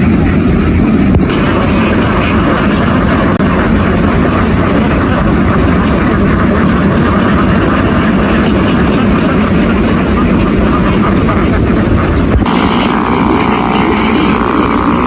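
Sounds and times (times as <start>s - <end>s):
loud engine running: 0.0s - 15.0s.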